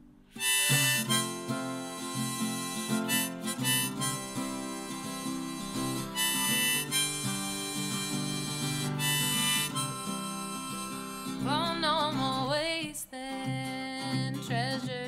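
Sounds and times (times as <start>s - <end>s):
strummed acoustic guitar: 0.0s - 15.0s
harmonica melody: 0.3s - 12.6s.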